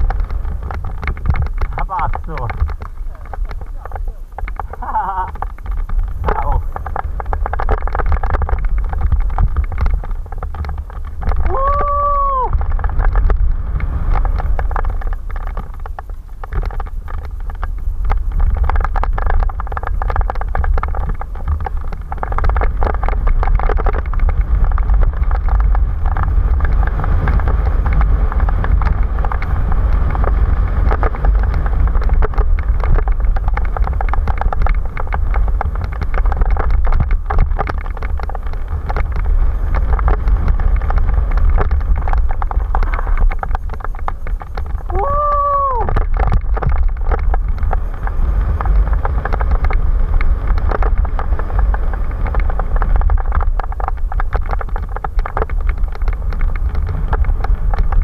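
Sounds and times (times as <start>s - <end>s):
bike rattling and knocking: 0.0s - 58.0s
tyres rolling over dirt and stones: 0.0s - 58.0s
wind rumble on microphone: 0.0s - 58.0s.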